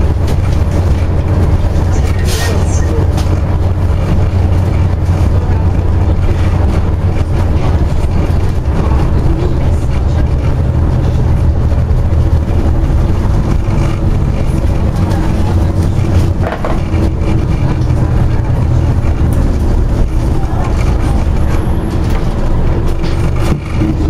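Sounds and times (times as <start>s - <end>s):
bus diesel engine drone: 0.0s - 24.0s
road noise: 0.0s - 24.0s.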